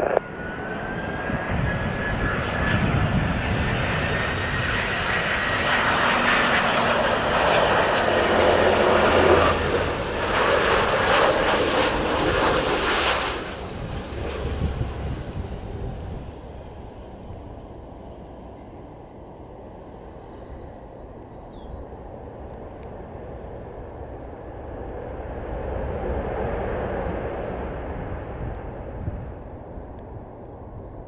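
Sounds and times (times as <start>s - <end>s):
jet airliner passing: 0.0s - 31.0s.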